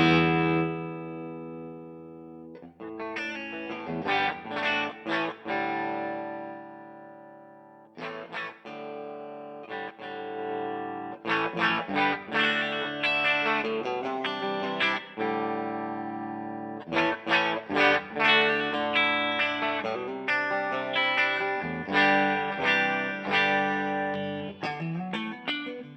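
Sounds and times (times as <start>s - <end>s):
electric guitar strummed chords: 0.0s - 25.9s.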